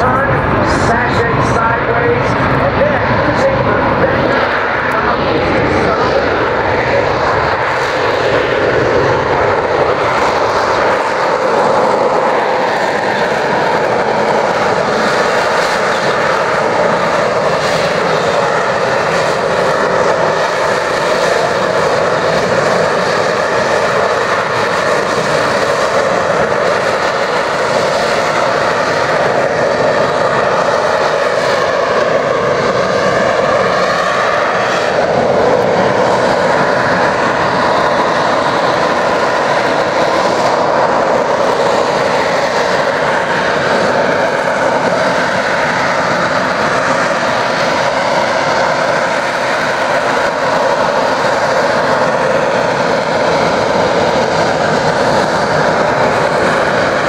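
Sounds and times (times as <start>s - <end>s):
jet engine roaring: 0.0s - 57.0s
jet engine whine: 0.0s - 57.0s.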